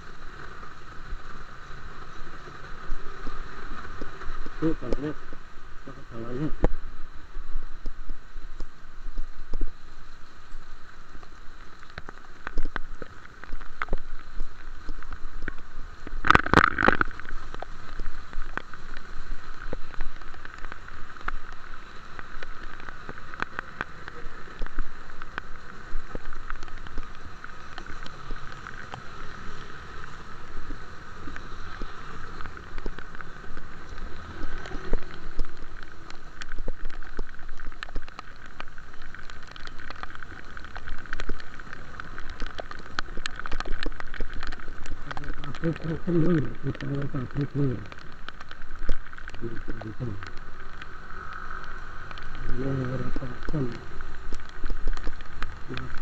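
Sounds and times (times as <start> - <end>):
steady rain drops: 0.0 - 56.0.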